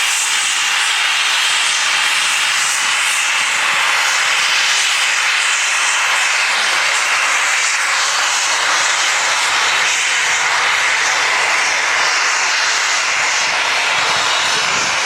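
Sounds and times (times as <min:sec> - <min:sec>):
steam locomotive venting steam: 0:00.0 - 0:15.0.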